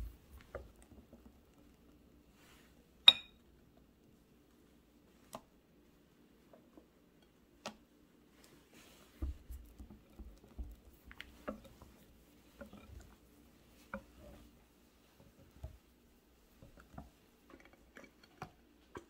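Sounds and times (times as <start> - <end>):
whisk squishing wet batter: 0.0 - 5.6, 7.3 - 19.0.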